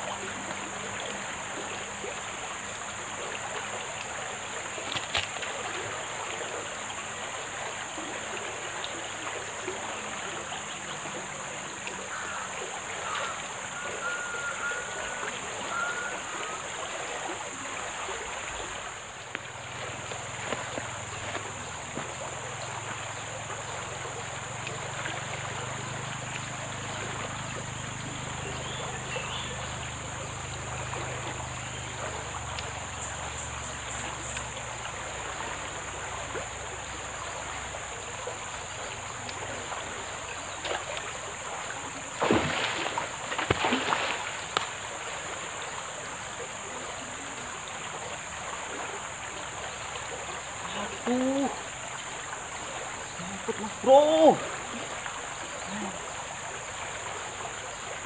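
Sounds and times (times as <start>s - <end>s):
flowing water: 0.0s - 58.0s
insect drone: 0.0s - 58.0s
water splashing: 0.0s - 58.0s.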